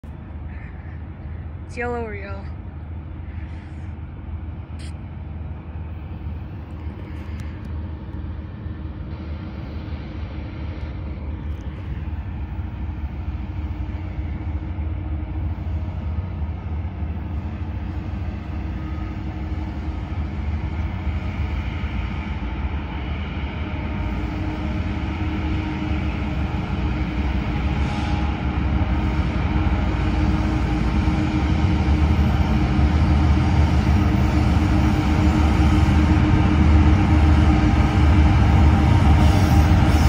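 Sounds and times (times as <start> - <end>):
locomotive engine rumble: 0.0 - 40.0.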